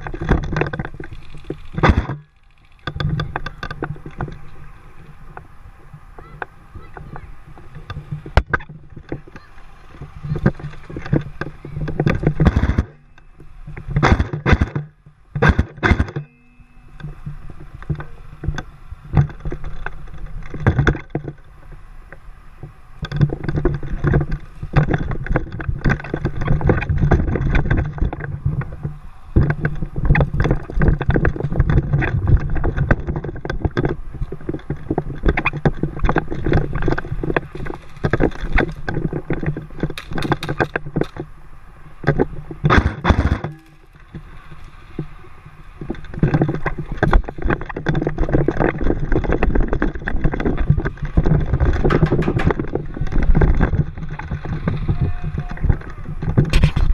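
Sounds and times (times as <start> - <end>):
gear rustling and knocking: 0.0 - 56.9.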